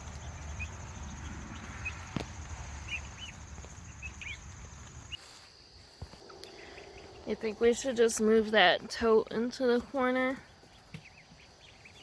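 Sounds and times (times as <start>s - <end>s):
chicks and ducklings peeping: 0.0s - 12.0s.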